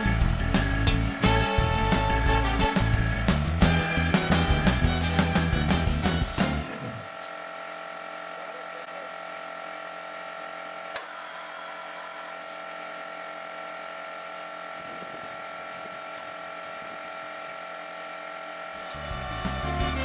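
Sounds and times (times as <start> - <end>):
mechanical hum with high whine: 0.0 - 20.0.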